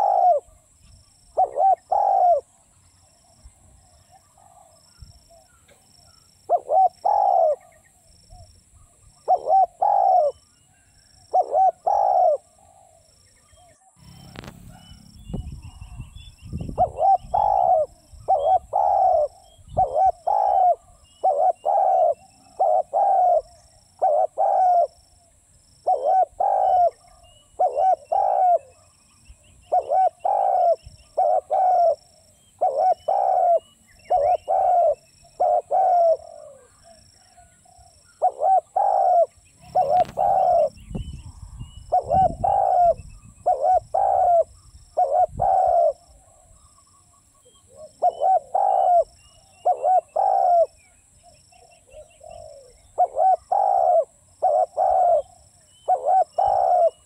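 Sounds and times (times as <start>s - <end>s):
dove cooing: 0.0s - 0.7s, 1.3s - 2.7s, 3.3s - 8.5s, 9.1s - 25.1s, 25.8s - 57.0s.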